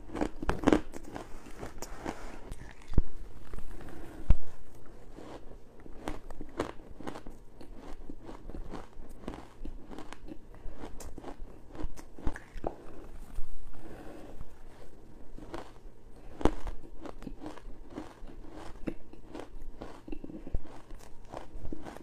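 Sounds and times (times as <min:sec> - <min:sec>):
crunchy chewing: 0:00.0 - 0:22.0.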